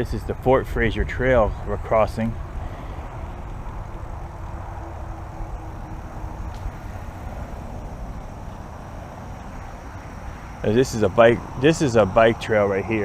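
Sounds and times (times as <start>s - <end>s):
highway traffic rumble and hiss: 0.0s - 13.0s.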